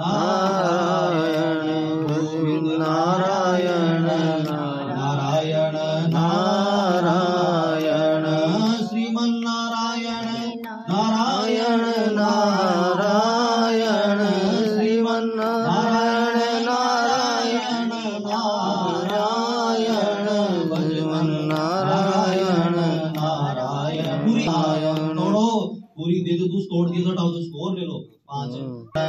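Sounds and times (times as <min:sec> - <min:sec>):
devotional mantras chanted melodically: 0:00.0 - 0:29.0.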